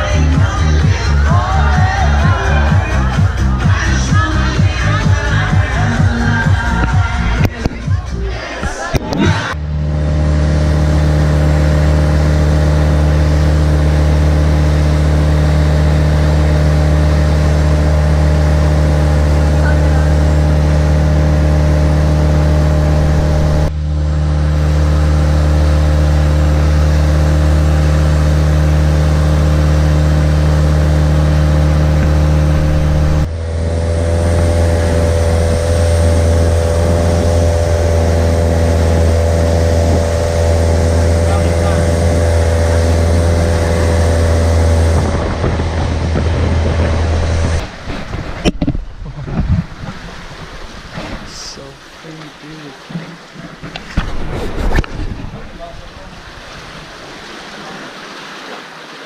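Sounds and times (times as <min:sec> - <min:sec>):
engine deep drone: 0:00.0 - 0:57.9.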